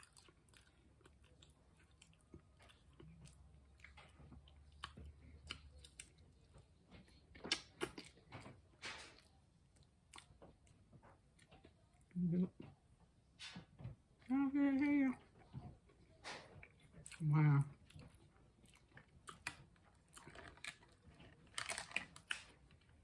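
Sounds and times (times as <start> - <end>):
chewing and lip smacks: 0.0 - 12.7, 15.2 - 23.0.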